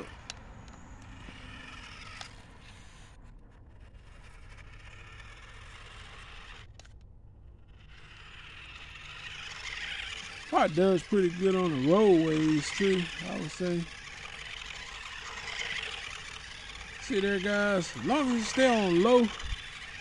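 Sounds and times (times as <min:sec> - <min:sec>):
electric motor whir: 0:00.0 - 0:20.0.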